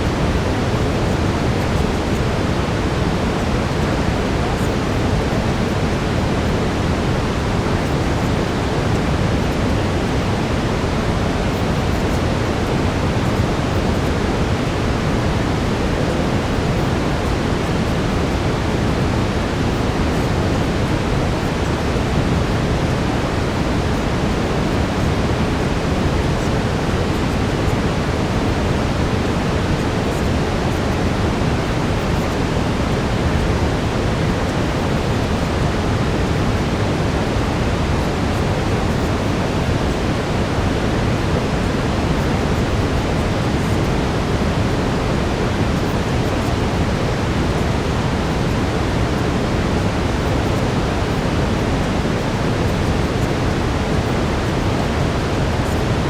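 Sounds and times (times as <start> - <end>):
deep brown noise hiss: 0.0 - 56.0.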